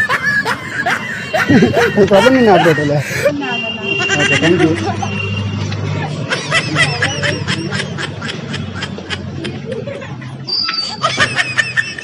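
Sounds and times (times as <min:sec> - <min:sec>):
young woman giggling: 0:00.0 - 0:05.2, 0:06.1 - 0:12.0.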